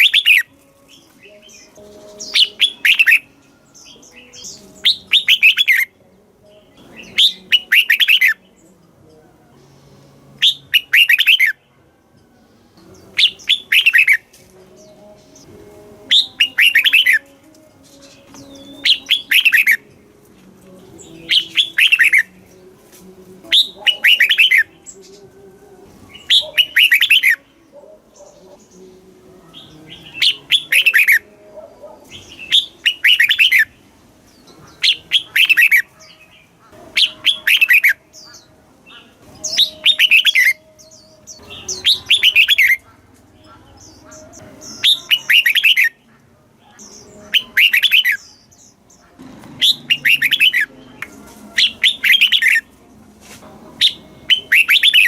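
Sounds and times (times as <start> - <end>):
bulbul singing: 0.0 - 55.0.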